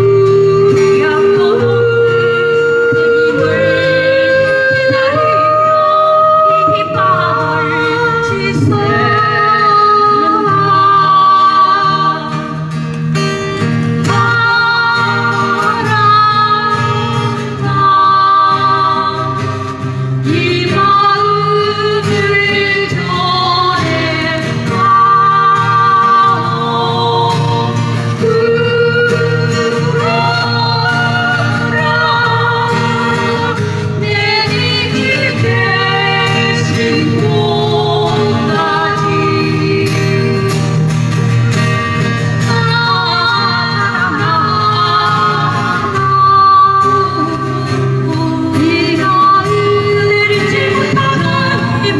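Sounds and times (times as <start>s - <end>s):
women singing together: 0.0s - 12.7s, 14.0s - 41.1s, 42.4s - 51.9s
strummed acoustic guitars: 0.0s - 51.9s.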